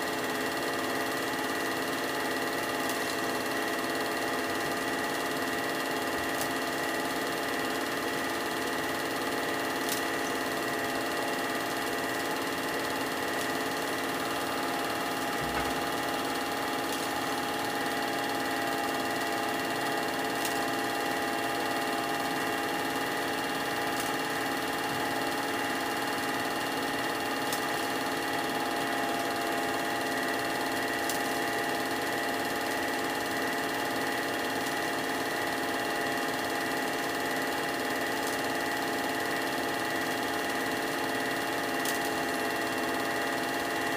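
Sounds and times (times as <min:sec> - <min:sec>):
film projector hum: 0:00.0 - 0:43.9.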